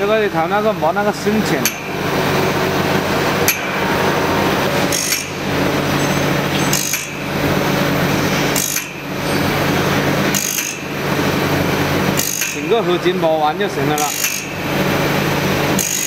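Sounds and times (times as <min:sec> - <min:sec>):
grinding machine grinding saw teeth: 0:01.3 - 0:16.0.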